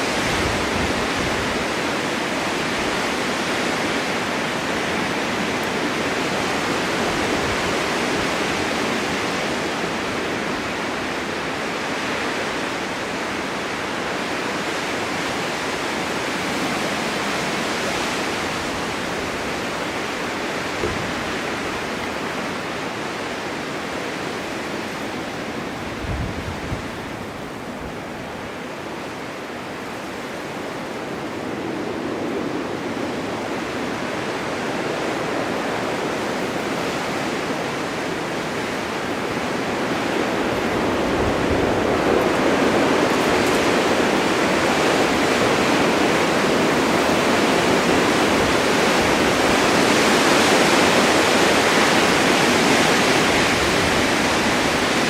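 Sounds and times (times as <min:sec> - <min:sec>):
blizzard wind rushing: 0:00.0 - 0:55.0.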